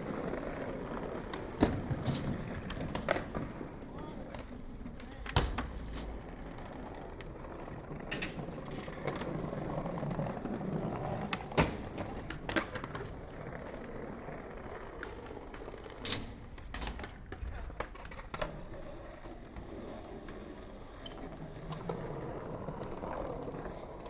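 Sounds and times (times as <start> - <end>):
skateboard clacks: 0.0 - 24.0
skateboard wheels rumbling: 0.0 - 24.0.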